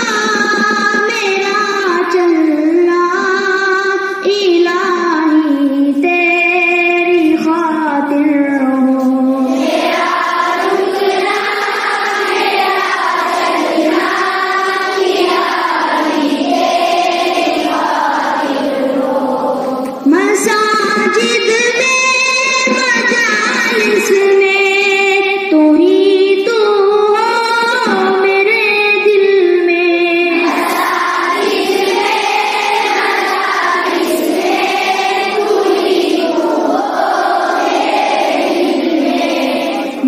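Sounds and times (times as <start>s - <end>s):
children singing in group: 0.0s - 40.0s.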